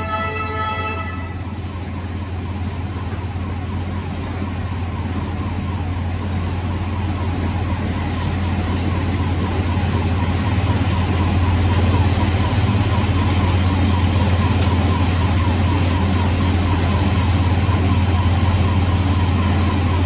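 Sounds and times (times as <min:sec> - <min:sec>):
pulsing warning signal: 0:00.0 - 0:20.0
machinery humming and rattling: 0:01.1 - 0:20.0.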